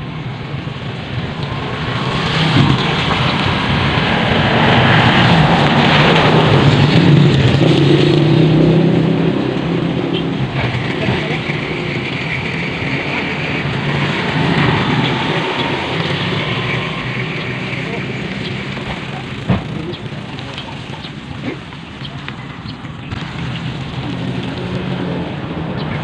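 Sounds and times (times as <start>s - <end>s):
steady rushing noise: 0.0s - 26.0s
vehicle engine running: 0.0s - 26.0s.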